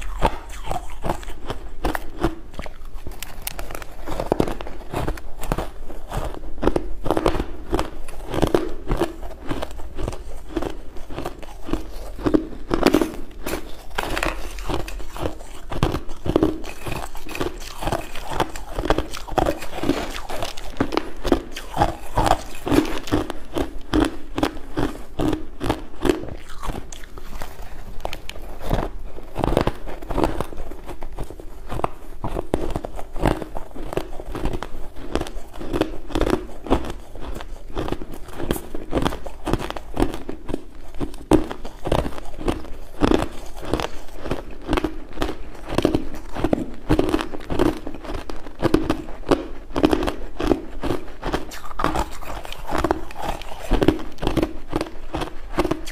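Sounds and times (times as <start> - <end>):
chewing crushed ice: 0.0 - 55.9.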